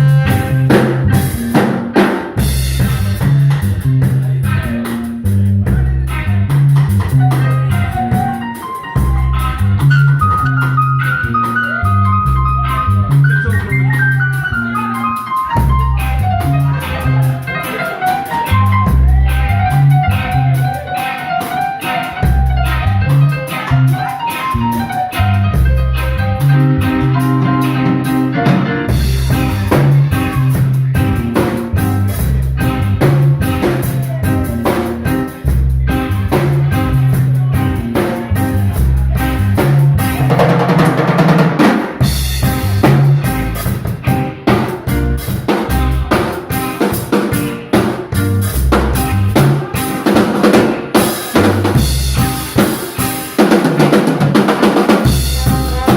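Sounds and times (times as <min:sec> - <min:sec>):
drum kit and bass beat: 0:00.0 - 0:55.9
lead melody line: 0:00.0 - 0:55.9.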